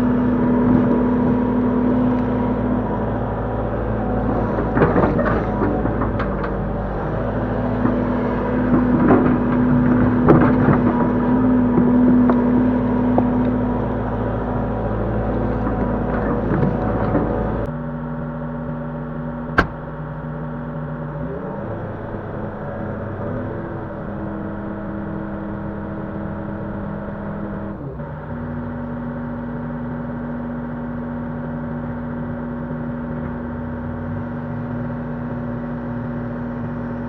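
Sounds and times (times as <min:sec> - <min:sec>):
excavator engine running: 0:00.0 - 0:37.0.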